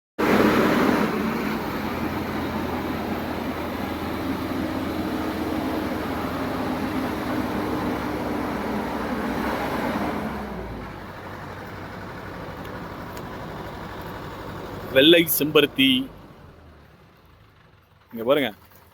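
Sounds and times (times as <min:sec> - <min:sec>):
motor vehicle hum: 0:00.2 - 0:18.9.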